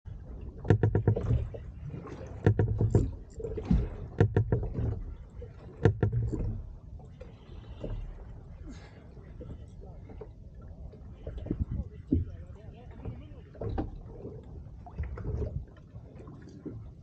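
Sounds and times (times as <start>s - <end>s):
low rumble of water: 0.0s - 17.0s
wind: 0.0s - 17.0s.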